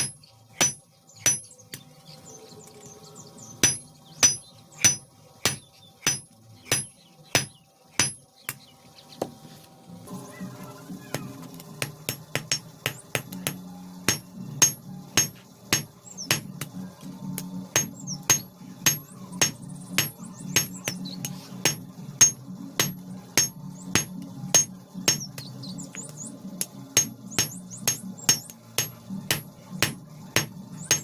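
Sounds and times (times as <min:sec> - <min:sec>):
hammer striking iron on anvil: 0:00.0 - 0:01.8, 0:03.6 - 0:08.6, 0:11.1 - 0:31.0.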